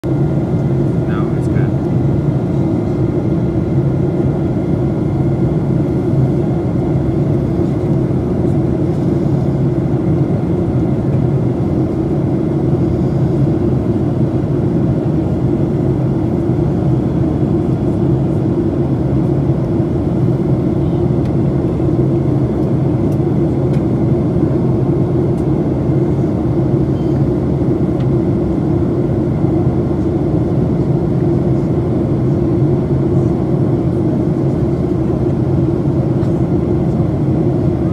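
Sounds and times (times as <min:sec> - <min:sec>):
jet engine and airflow rumble: 0:00.0 - 0:37.9.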